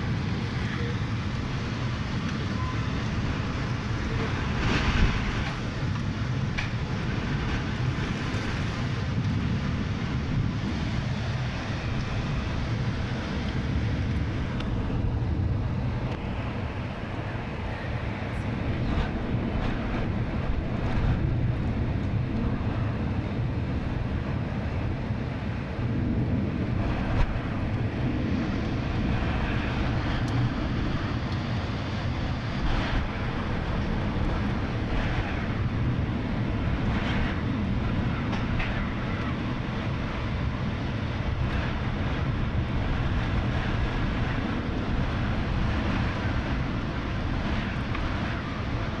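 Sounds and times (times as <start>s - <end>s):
low thunder rumble: 0.0s - 49.0s
rain: 0.0s - 49.0s
wind: 0.0s - 49.0s.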